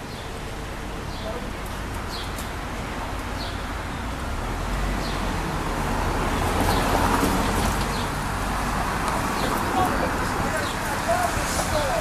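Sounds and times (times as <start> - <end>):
passing vehicle: 0.0 - 12.0.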